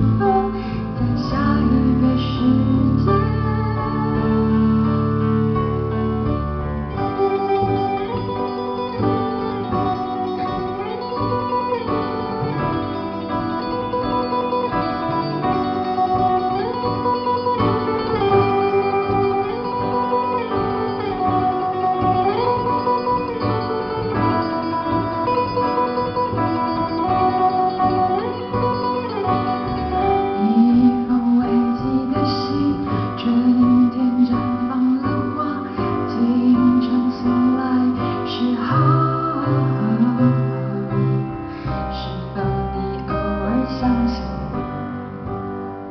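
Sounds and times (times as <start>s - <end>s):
live band guitar music: 0.0s - 45.9s.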